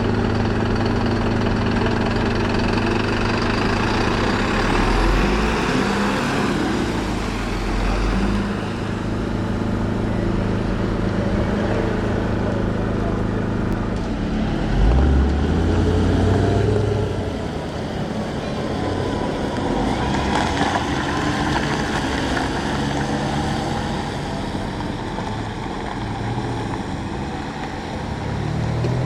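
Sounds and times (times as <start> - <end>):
large vehicle engine running: 0.0 - 29.0
road noise: 0.0 - 29.0.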